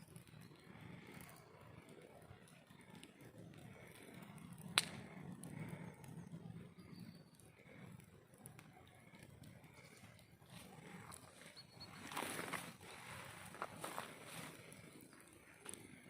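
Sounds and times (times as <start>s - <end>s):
burning wood popping: 0.0s - 16.0s
campfire burning: 0.0s - 16.0s.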